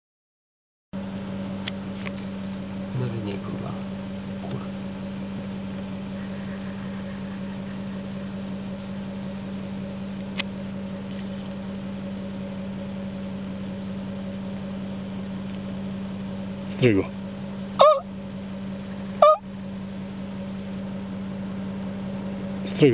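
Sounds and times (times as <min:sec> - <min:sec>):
car engine idling: 0:01.0 - 0:22.9.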